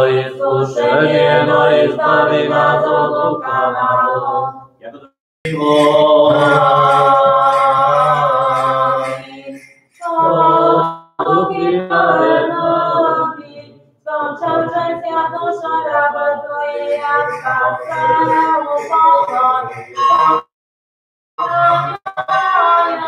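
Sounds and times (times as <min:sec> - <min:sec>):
unaccompanied choral chant: 0:00.0 - 0:04.7, 0:05.5 - 0:20.4, 0:21.4 - 0:23.0.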